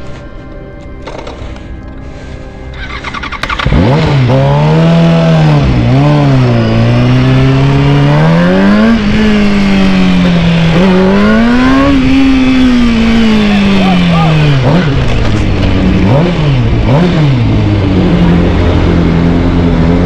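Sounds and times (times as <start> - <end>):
motorcycle engine revving: 2.7 - 20.0.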